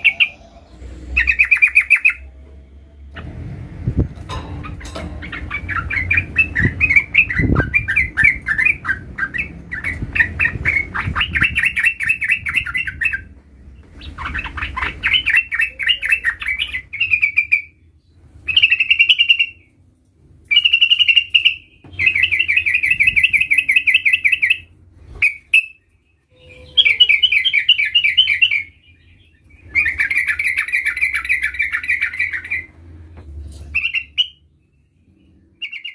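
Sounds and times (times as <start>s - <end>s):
bird singing chattering trills: 0.0s - 2.3s, 4.6s - 13.3s, 13.9s - 19.7s, 20.5s - 32.7s, 33.7s - 35.9s.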